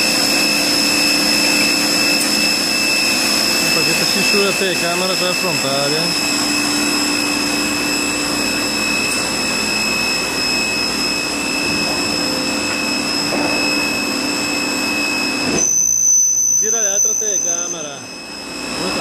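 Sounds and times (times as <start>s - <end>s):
high steady machine whines: 0.0s - 19.0s.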